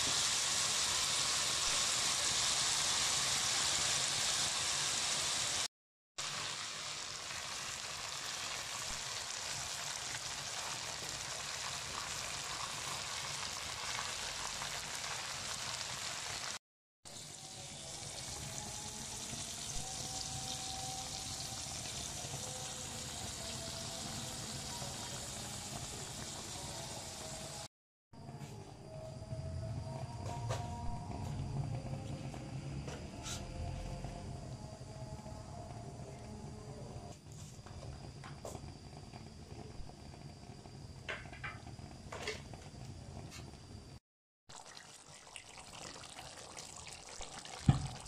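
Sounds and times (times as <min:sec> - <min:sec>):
chicken frying in a pot: 0:00.0 - 0:27.7, 0:36.0 - 0:48.0.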